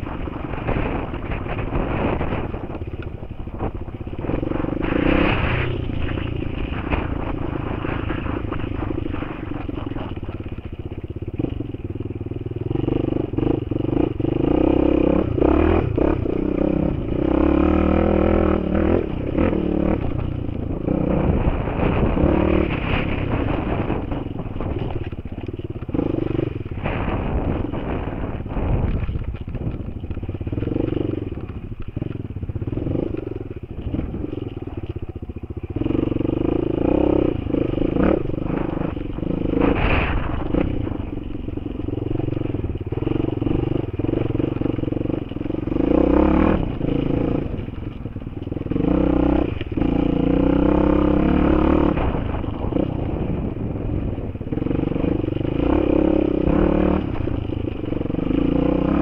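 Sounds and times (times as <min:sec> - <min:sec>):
knocks and rattles over stony ground: 0:00.0 - 0:59.0
motorcycle engine revving: 0:00.0 - 0:59.0.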